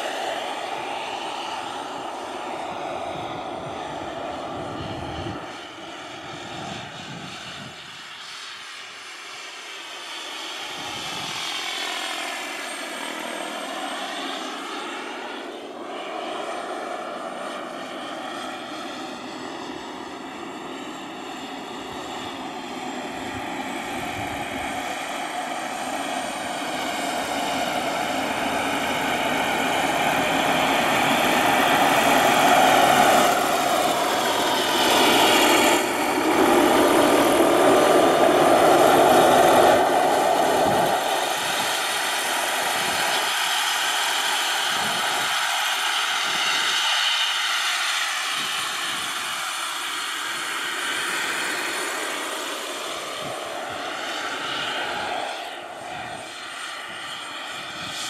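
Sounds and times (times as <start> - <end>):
model helicopter rotor whine: 0.0 - 58.0.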